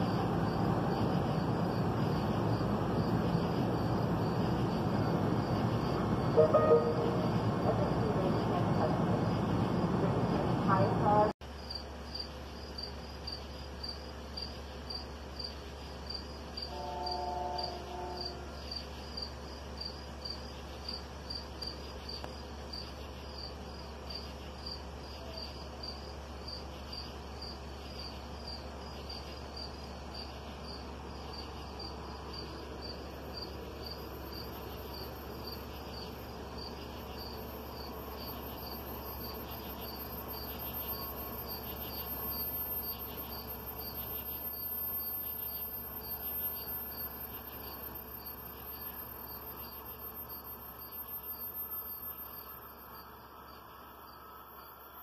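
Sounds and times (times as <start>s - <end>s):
low steady hum: 0.0s - 55.0s
night insects chirping: 0.0s - 55.0s.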